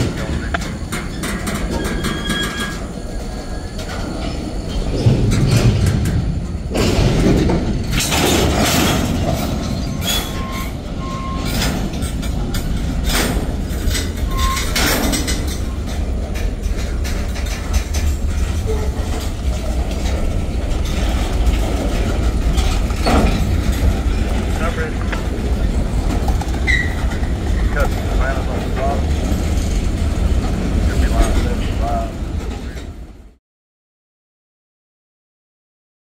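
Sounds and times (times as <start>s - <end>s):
steel wheels clattering over rails: 0.0s - 33.3s
freight train rumbling past: 0.0s - 33.4s.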